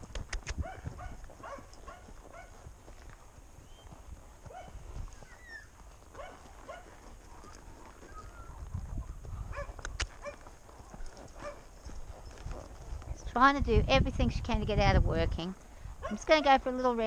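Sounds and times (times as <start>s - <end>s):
wind rumbling on microphone: 0.0s - 6.4s, 7.1s - 17.0s.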